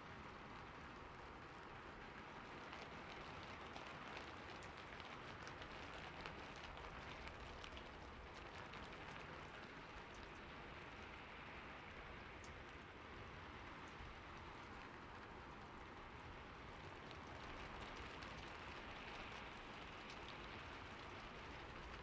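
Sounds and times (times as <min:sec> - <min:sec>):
rain falling on a roof: 0:00.0 - 0:22.0.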